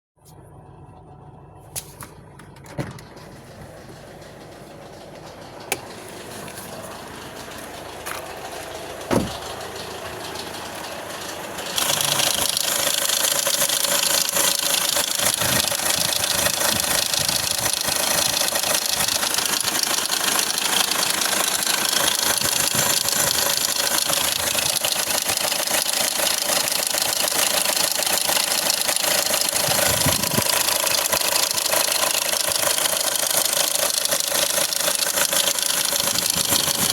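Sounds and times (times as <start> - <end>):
diesel engine idling with rattle: 0.2 - 36.9.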